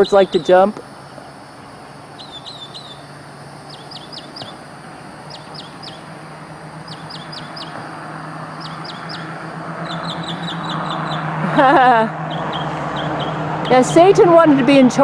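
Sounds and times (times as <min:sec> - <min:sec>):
songbird chirping: 0:00.0 - 0:14.3
steady low hum: 0:00.0 - 0:15.0.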